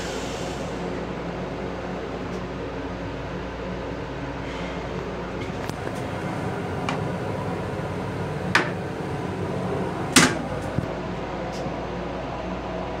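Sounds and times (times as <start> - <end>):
railcar hum: 0.0 - 13.0.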